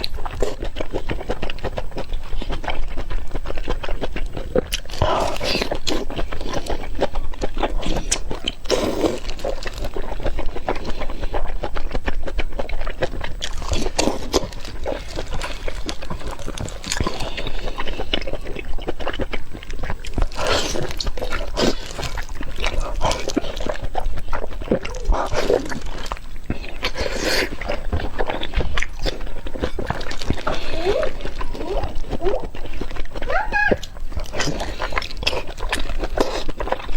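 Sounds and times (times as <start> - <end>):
person chewing and smacking: 0.0 - 36.9.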